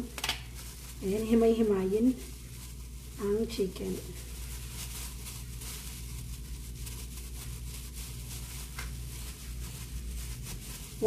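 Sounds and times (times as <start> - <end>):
plastic gloves crinkling: 0.0 - 11.0
steady low hum: 0.0 - 11.0
chicken being shredded: 0.1 - 11.0.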